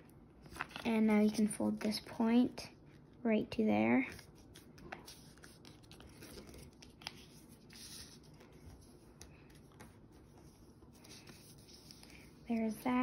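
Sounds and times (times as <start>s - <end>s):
paper rustling: 0.4s - 2.0s, 4.0s - 13.0s.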